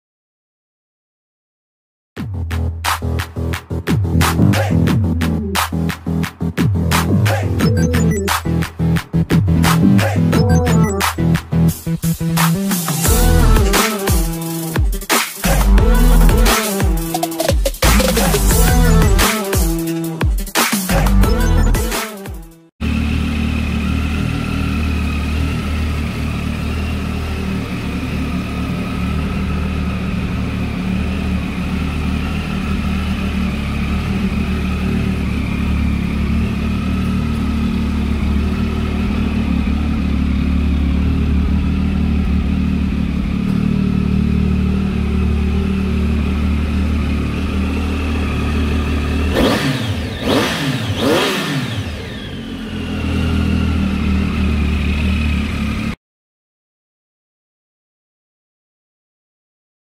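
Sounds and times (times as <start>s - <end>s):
motorcycle engine idling and revving: 2.2s - 56.0s.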